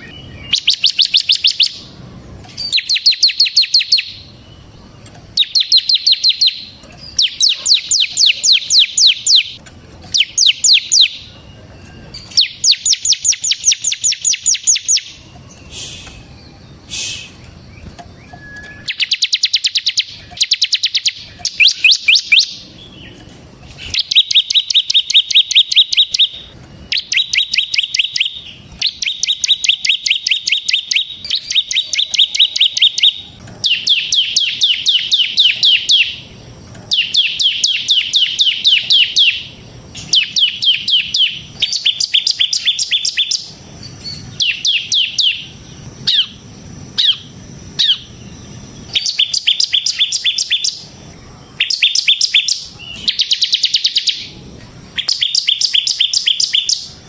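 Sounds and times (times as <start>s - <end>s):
bird rattling trill: 0.0s - 57.0s.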